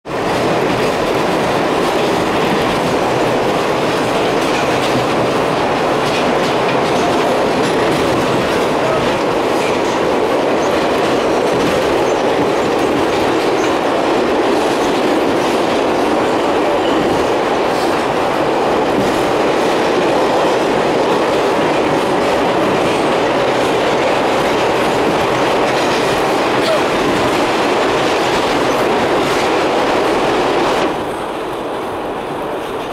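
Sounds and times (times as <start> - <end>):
subway wheel and track noise: 0.0 - 32.9.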